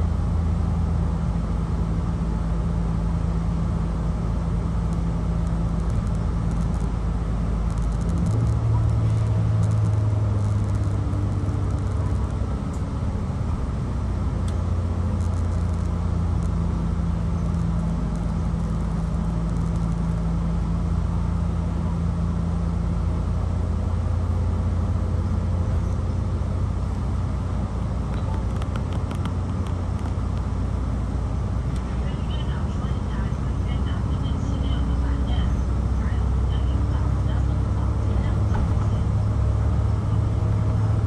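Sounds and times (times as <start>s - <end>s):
low engine drone: 0.0s - 41.0s
tyre and road noise: 0.0s - 41.0s.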